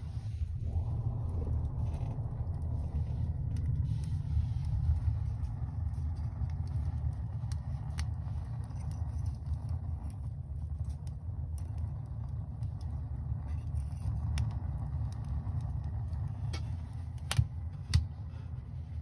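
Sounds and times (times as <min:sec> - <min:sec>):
fire crackles: 0:00.0 - 0:19.0
wood fire rumbling: 0:00.0 - 0:19.0.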